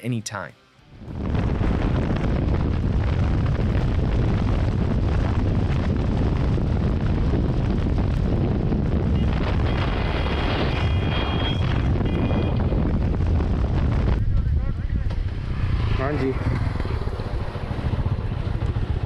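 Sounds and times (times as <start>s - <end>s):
wind buffeting microphone: 1.0s - 19.0s.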